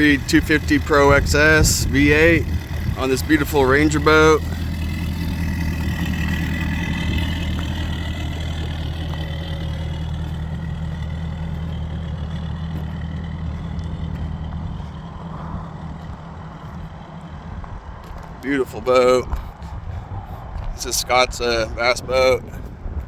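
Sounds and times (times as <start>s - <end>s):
outboard engine idling: 0.0s - 23.0s.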